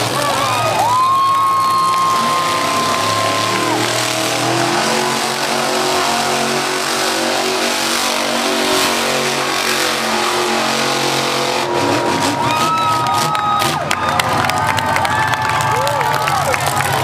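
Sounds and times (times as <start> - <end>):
crowd cheering and shouting: 0.0 - 17.0
truck engine revving: 0.0 - 17.0.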